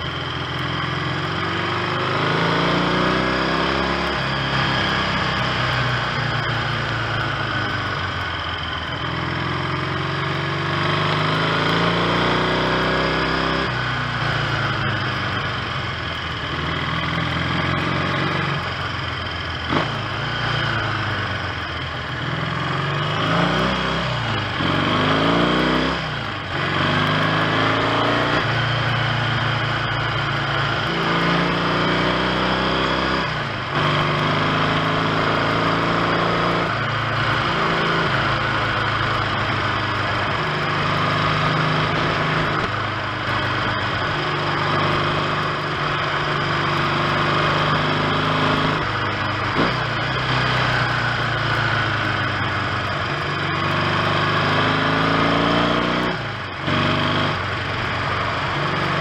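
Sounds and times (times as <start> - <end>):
motorcycle engine revving through gears: 0.0 - 59.0.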